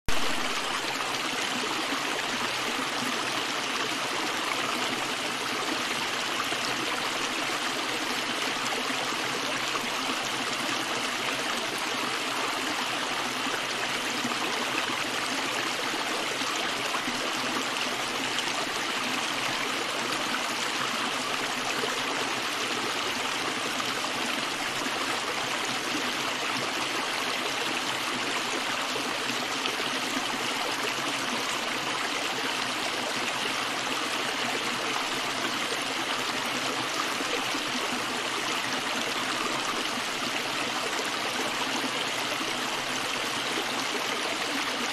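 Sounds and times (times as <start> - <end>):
stream water rushing and trickling: 0.1 - 44.9.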